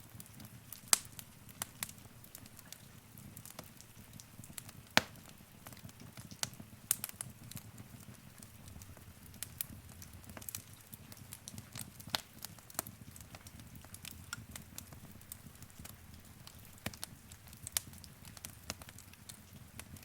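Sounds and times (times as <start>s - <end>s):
low rumble of flame: 0.0s - 20.0s
wood fire crackling: 0.0s - 20.0s.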